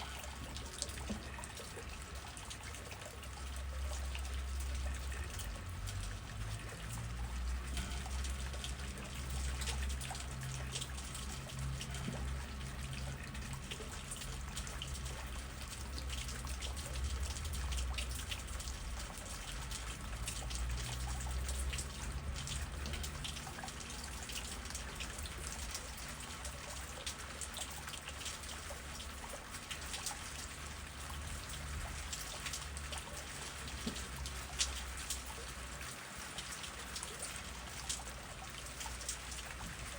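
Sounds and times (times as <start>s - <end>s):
raindrops pattering and dripping: 0.0s - 39.9s.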